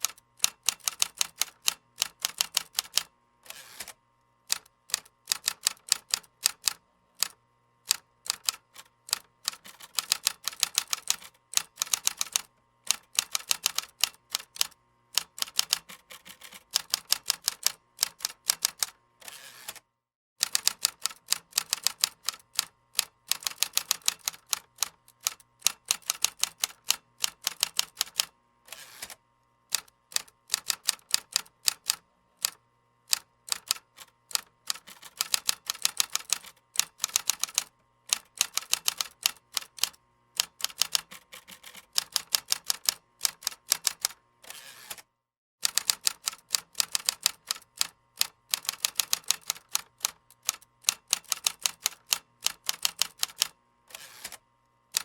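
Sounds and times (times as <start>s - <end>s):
typing on a computer keyboard: 0.0s - 3.1s, 3.8s - 19.0s, 20.4s - 28.3s, 29.0s - 45.0s, 45.6s - 55.0s.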